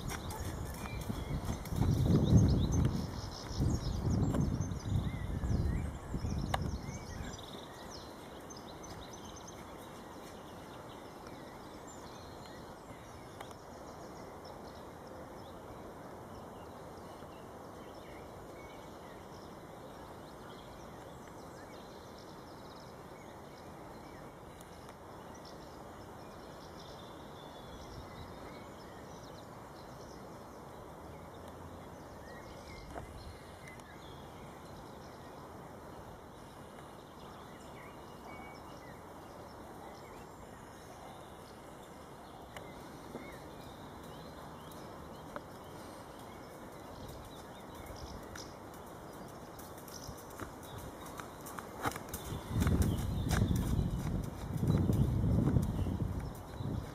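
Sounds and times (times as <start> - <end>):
faint outdoor background noise: 0.0 - 56.9.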